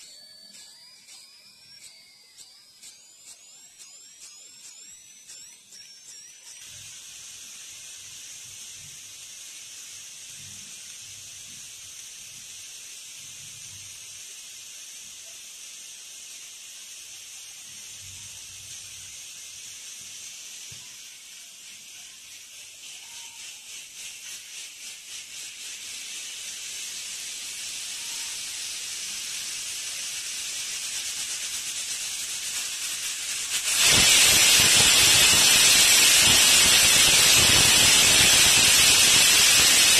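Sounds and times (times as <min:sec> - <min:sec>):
pressure cooker whistle: 0:00.0 - 0:24.5, 0:26.3 - 0:30.8, 0:32.4 - 0:39.9
pressure cooker steam hissing: 0:00.0 - 0:39.9.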